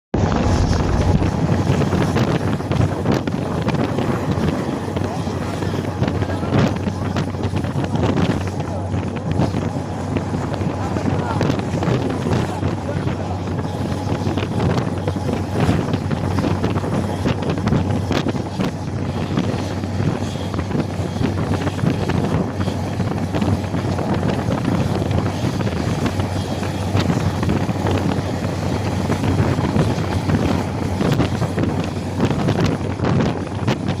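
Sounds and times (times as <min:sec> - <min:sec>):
train rumbling: 0:00.1 - 0:34.0
wind buffeting microphone: 0:00.1 - 0:34.0.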